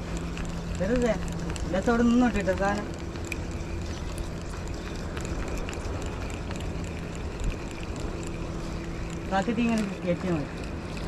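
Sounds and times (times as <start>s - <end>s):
water around boat: 0.0s - 11.0s
wind rumble on microphone: 0.0s - 11.0s.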